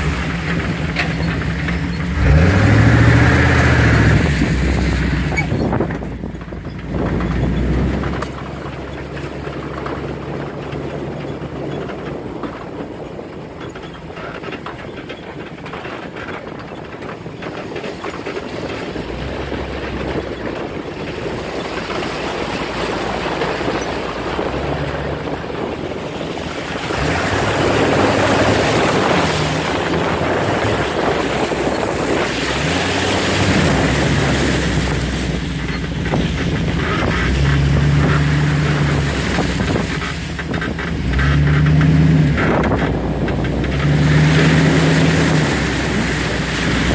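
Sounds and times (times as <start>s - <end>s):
off-road vehicle engine running: 0.0s - 46.9s
wind noise: 0.0s - 46.9s.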